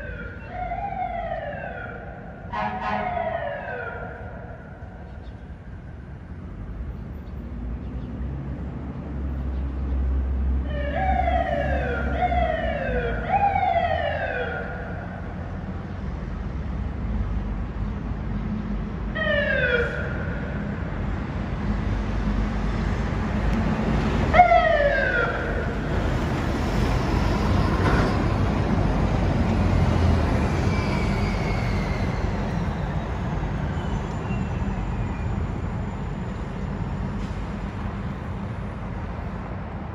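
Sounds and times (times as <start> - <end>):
city traffic rumble: 0.0 - 39.9.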